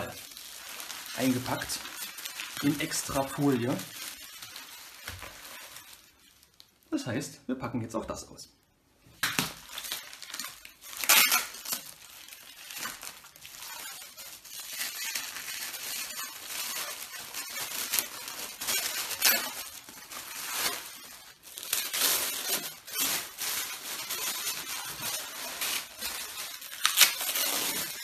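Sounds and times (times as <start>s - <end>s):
plastic film crinkling: 0.0s - 7.2s, 9.2s - 28.0s.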